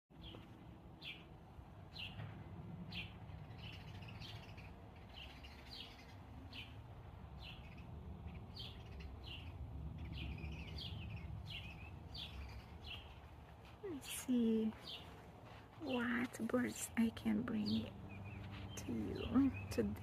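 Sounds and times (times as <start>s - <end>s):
songbirds chirping: 0.1s - 20.0s
low steady rumble: 0.2s - 20.0s.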